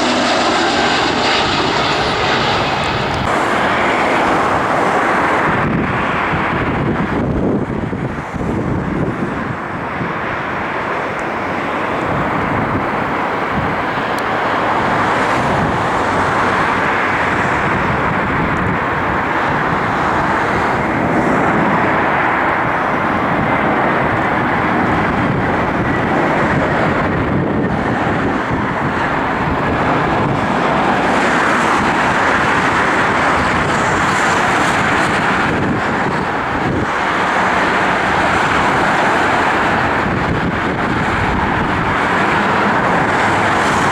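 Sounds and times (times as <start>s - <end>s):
jet engine rushing: 0.0s - 43.9s.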